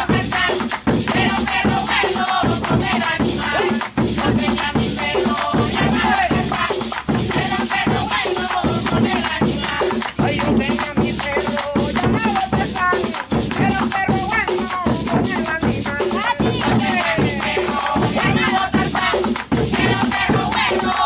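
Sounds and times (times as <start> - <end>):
hand drum fast rhythm: 0.0 - 21.0
hands clapping: 0.0 - 21.0
shaker rattling: 0.0 - 21.0
voices singing: 0.0 - 21.0.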